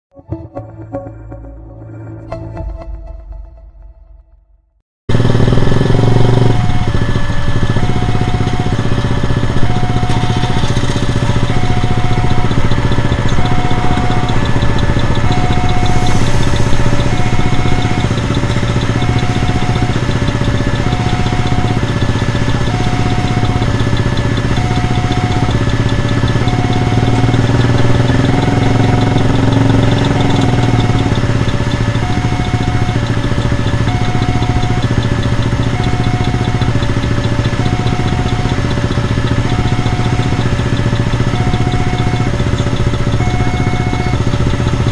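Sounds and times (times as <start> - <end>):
idling engines hum: 5.1 - 44.9
two-tone crossing alarm: 5.1 - 44.9.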